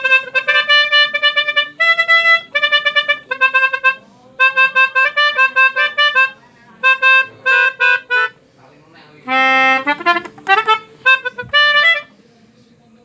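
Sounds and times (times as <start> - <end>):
musical bus air horn tune: 0.0 - 8.4, 9.3 - 12.1.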